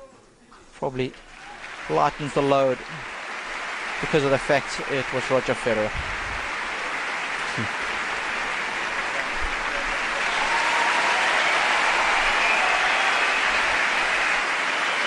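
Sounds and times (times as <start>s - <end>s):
arena crowd applauding: 1.0s - 15.0s.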